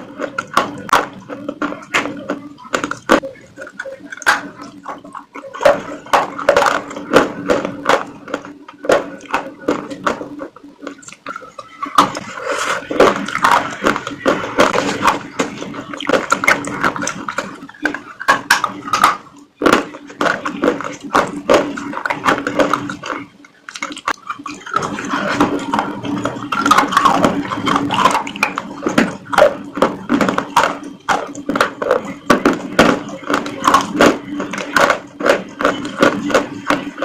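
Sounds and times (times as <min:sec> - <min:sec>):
chewing and crunching food: 0:00.0 - 0:37.0
wet mouth sounds: 0:00.0 - 0:37.0.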